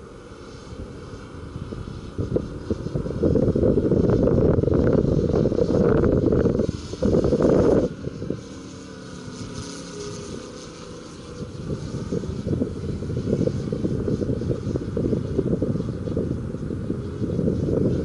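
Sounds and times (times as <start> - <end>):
distant model plane engine drone: 0.0 - 18.0
wind buffeting on microphone: 0.0 - 18.0.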